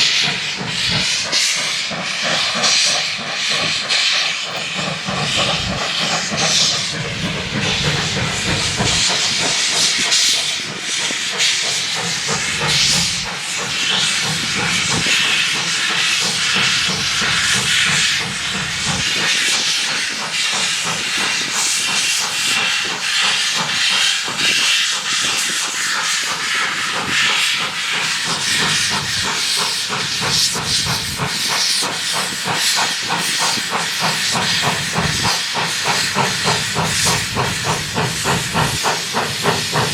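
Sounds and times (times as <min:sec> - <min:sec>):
steam hissing: 0:00.0 - 0:39.9
steam locomotive exhaust chuffs: 0:00.0 - 0:39.9.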